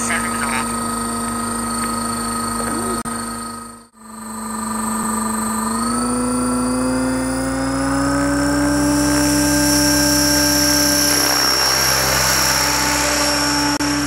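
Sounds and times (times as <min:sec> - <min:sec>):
model helicopter motor whining: 0:00.0 - 0:14.0.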